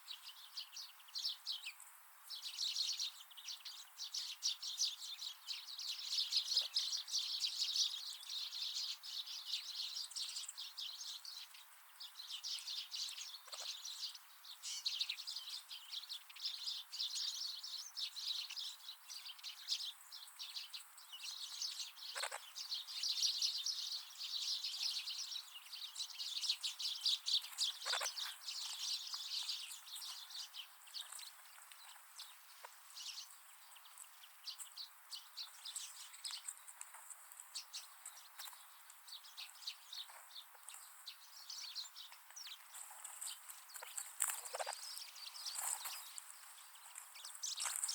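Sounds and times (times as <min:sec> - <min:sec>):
birds chirping and twittering: 0:00.0 - 0:47.9.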